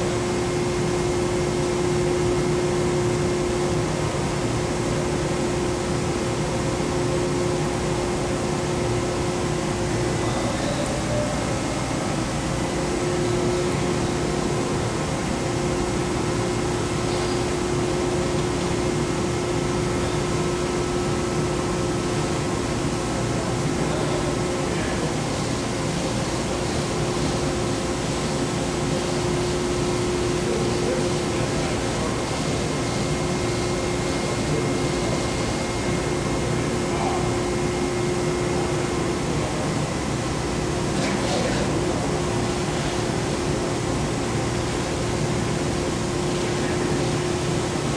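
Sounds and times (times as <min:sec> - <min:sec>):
cnc router whine: 0:00.0 - 0:47.9.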